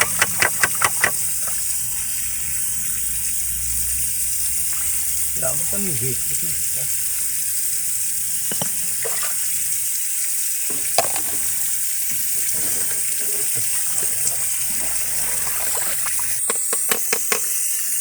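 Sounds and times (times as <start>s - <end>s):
water rushing from leaking pipe: 0.0s - 18.0s.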